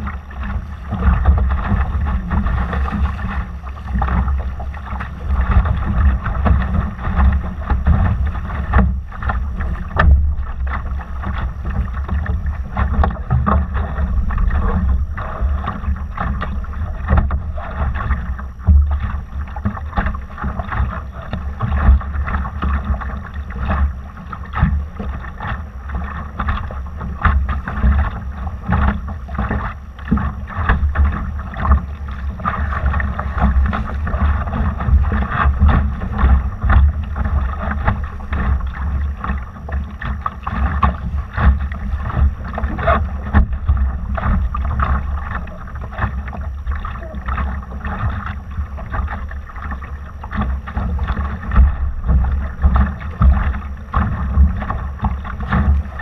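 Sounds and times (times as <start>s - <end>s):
water splashing along hull: 0.0s - 56.0s
wind buffeting microphone: 0.0s - 56.0s.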